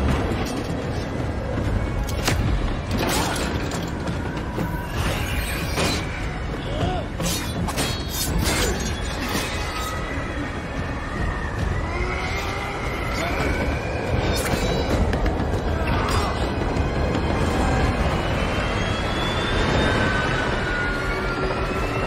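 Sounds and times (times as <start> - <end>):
rumble of rushing air: 0.0 - 8.4, 9.9 - 22.0.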